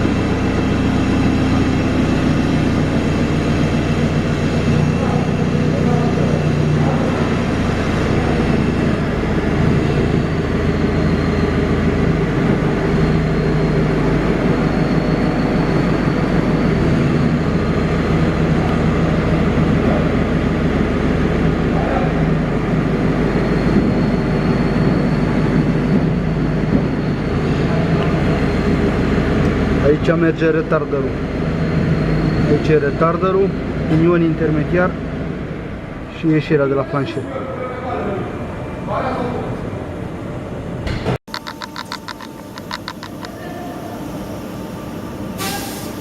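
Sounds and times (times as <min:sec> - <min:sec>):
heavy vehicle engine drone: 0:00.0 - 0:46.0.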